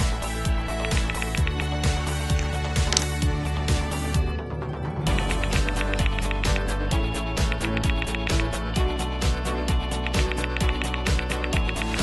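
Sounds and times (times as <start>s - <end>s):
music with steady kick drum: 0.0s - 4.3s, 5.1s - 12.0s.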